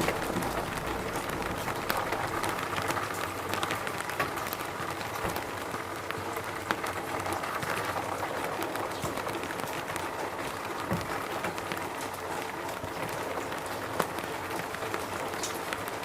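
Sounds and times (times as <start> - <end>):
raindrops striking sharply: 0.0 - 16.0
steady rain hissing: 0.0 - 16.0.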